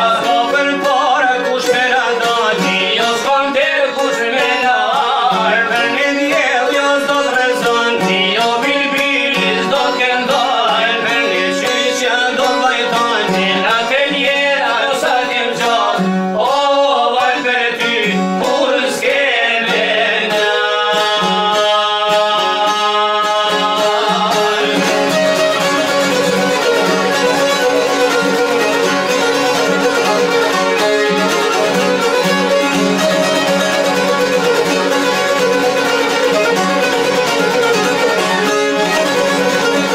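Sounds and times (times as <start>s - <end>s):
man singing: 0.0s - 39.9s
plucked lutes playing folk music: 0.0s - 39.9s
violin: 0.0s - 39.9s.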